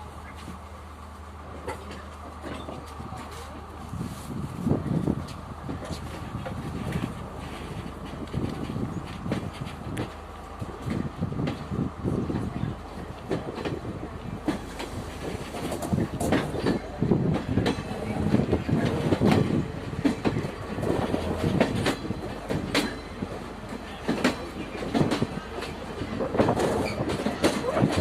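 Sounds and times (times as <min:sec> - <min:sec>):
steady rumble of railway carriage: 0:00.0 - 0:28.0
train wheels clattering over rail joints: 0:05.0 - 0:28.0.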